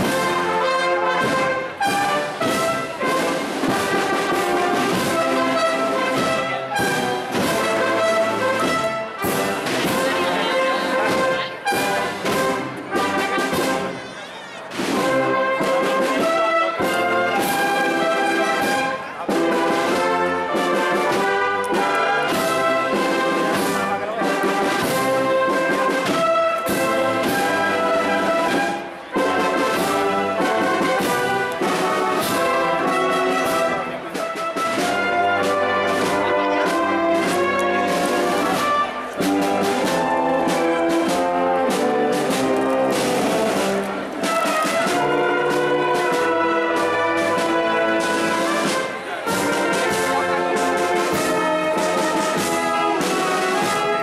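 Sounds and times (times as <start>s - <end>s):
drums: 0.0s - 54.0s
wind band playing a march: 0.0s - 54.0s.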